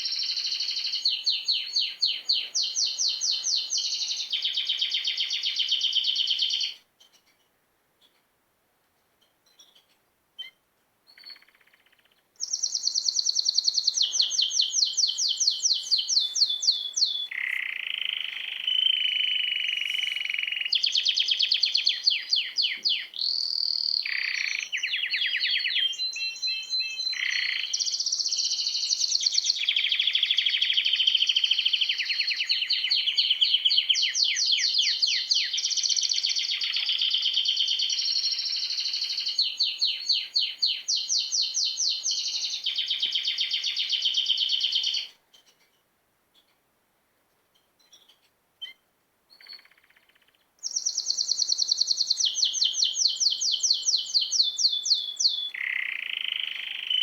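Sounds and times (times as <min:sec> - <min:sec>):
small birds chirping and trilling: 0:00.0 - 0:08.3, 0:09.2 - 0:46.6, 0:47.5 - 0:57.0.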